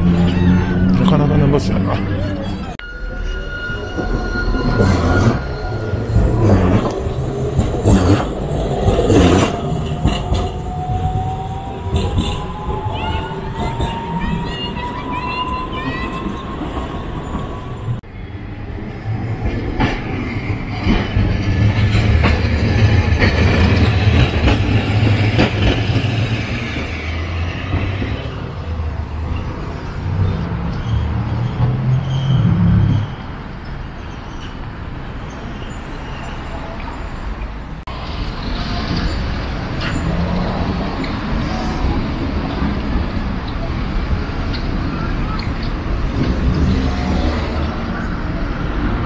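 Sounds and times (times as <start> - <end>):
street hum: 0.0 - 49.0
low traffic rumble: 4.5 - 49.0.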